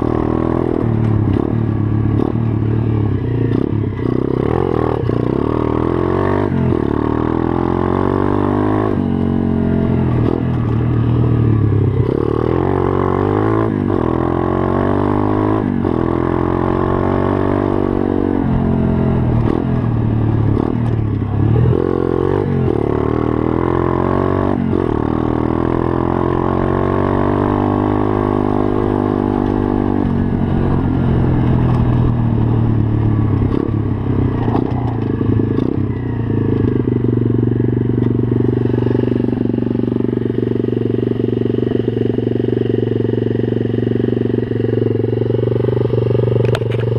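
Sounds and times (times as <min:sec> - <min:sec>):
pit bike engine revving: 0:00.0 - 0:46.9.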